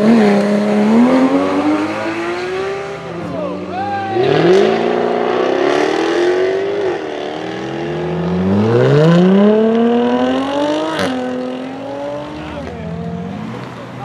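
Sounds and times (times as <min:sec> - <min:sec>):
sports car engines revving: 0:00.0 - 0:14.0.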